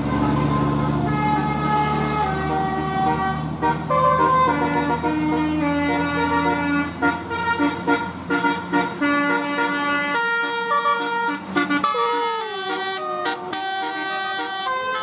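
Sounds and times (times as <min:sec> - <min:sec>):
low engine rumble: 0:00.0 - 0:15.0
multi-tone air horn melody: 0:00.0 - 0:15.0.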